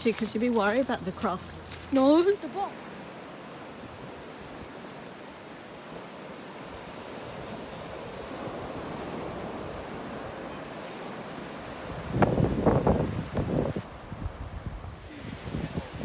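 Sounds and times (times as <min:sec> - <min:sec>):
surf washing on beach: 0:00.0 - 0:16.0.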